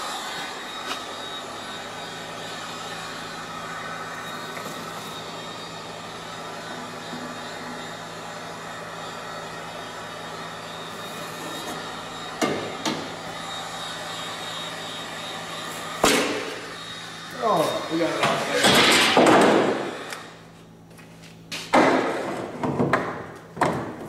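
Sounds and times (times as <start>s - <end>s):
whooshing blower with low hum: 0.0s - 20.9s.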